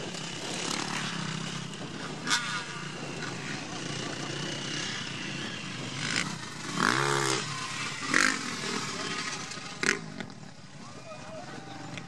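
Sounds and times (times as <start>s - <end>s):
motocross bike engines running: 0.0s - 12.0s.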